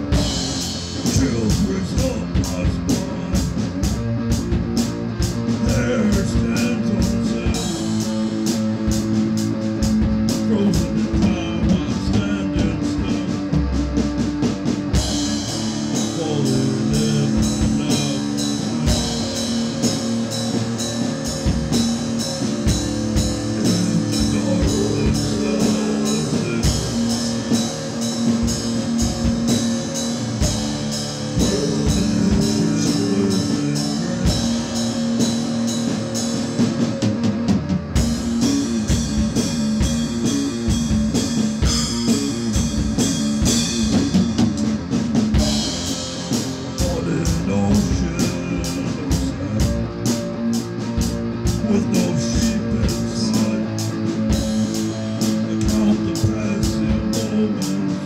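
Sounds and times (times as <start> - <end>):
drum hits: 0.0 - 57.5
sustained guitar notes: 0.0 - 58.0.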